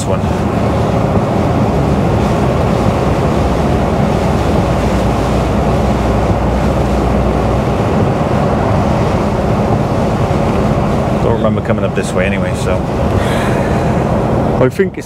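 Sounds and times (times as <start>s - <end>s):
lorry engine hum: 0.0s - 15.0s.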